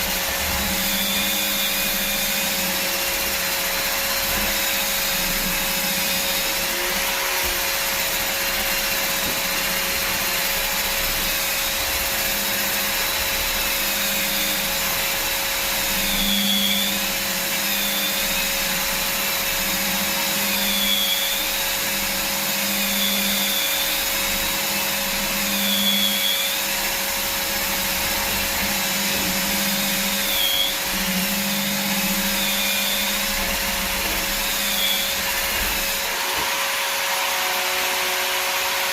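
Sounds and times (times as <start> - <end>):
drywall sander motor whine: 0.0 - 38.9.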